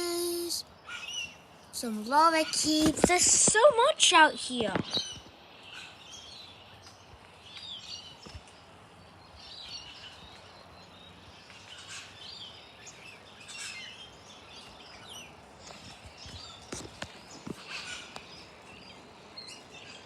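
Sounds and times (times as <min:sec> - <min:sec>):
birds calling: 0:00.0 - 0:03.9, 0:04.6 - 0:20.0
steady outdoor hiss: 0:00.0 - 0:20.0.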